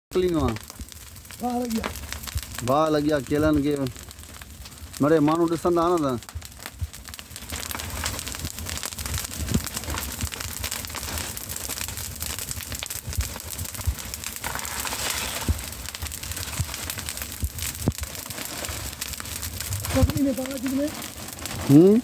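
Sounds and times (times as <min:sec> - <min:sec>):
fire crackling with pops: 0:00.1 - 0:22.0.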